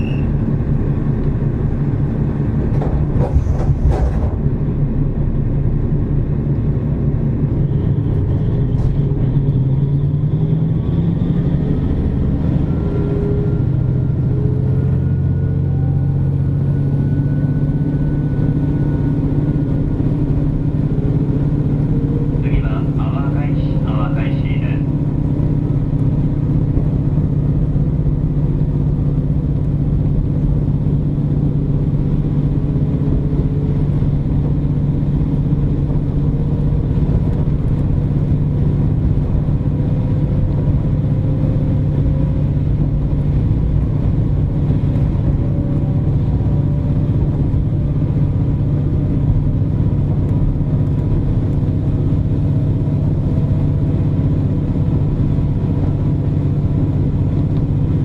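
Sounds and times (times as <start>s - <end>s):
diesel engine drone: 0.0s - 58.0s
wheel and track rumble: 0.0s - 58.0s.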